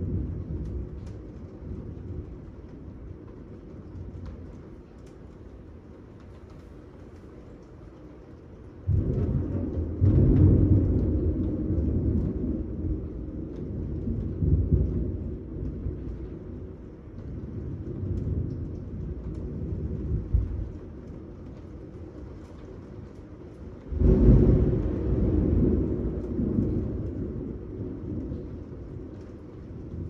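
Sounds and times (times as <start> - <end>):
thunder clap and rumble: 0.0 - 30.0.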